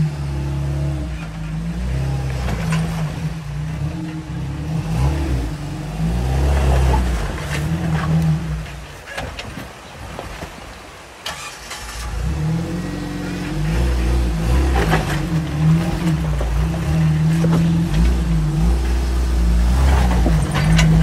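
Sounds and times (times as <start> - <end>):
engine revving under load: 0.0 - 8.7, 11.3 - 21.0.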